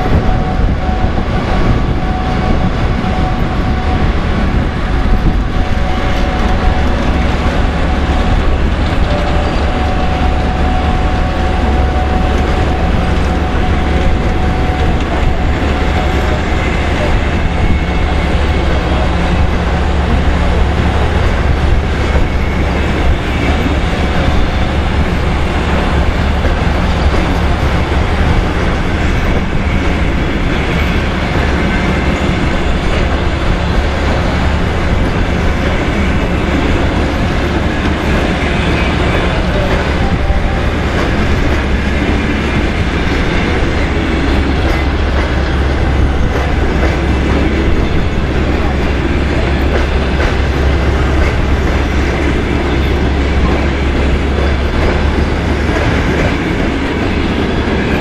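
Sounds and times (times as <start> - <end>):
train low rumble: 0.0 - 58.0
train wheels clicking over rail joints: 0.0 - 58.0.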